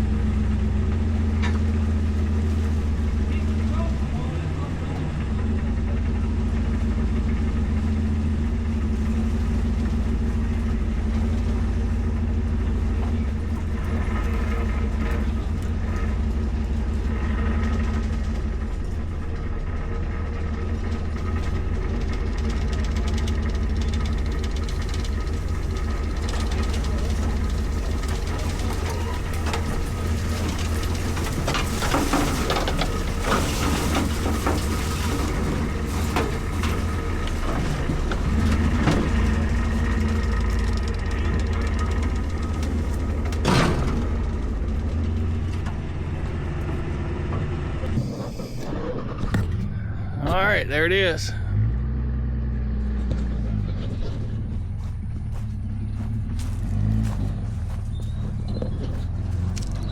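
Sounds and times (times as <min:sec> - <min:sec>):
rattles and clatters: 0:00.0 - 0:59.9
vehicle engine running: 0:00.0 - 0:59.9.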